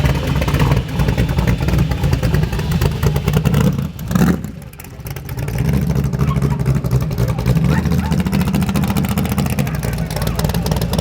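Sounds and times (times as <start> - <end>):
car engine running roughly: 0.0 - 11.0.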